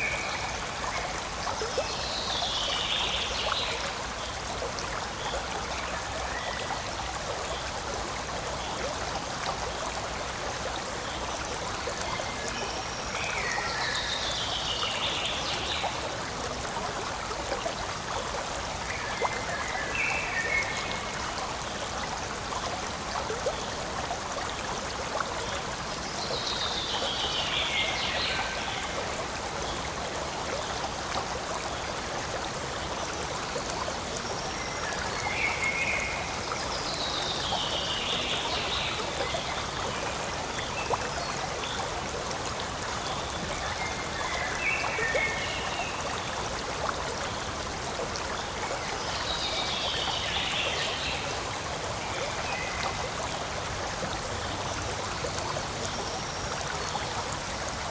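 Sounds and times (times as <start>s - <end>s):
forest stream flowing: 0.0s - 57.9s.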